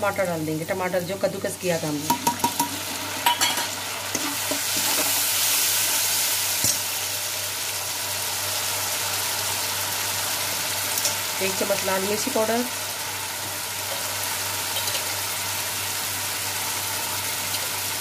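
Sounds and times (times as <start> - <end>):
tomato sizzling in hot oil: 0.0 - 18.0.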